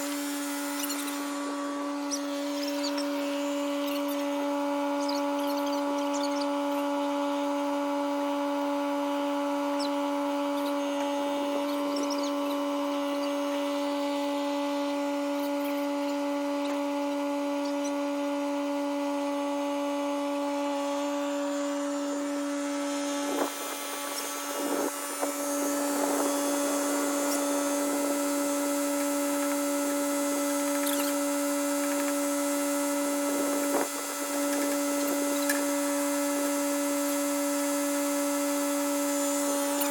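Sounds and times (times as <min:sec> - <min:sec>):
motor whining steadily: 0:00.0 - 0:39.9.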